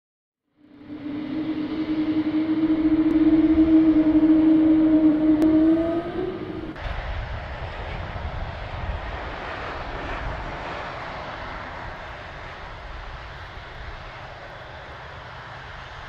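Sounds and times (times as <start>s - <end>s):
jet engines rumbling: 0.5s - 16.0s.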